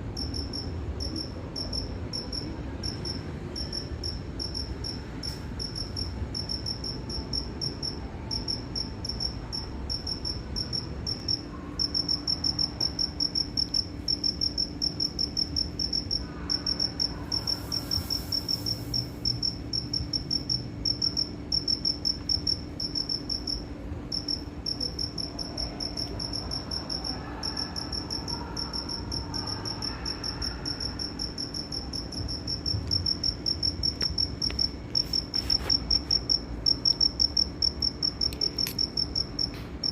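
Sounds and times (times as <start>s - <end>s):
cricket chirping: 0.0s - 39.9s
low background rumble: 0.0s - 39.9s.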